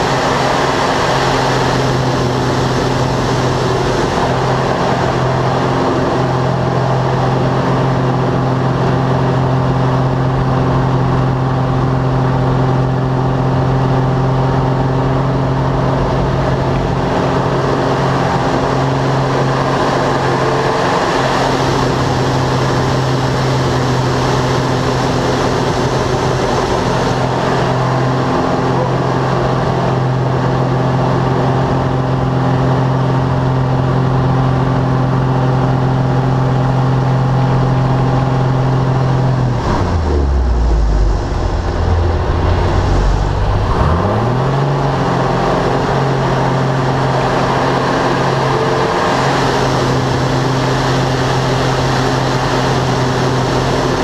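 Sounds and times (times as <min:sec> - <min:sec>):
plane engine and propeller drone: 0:00.0 - 0:54.0.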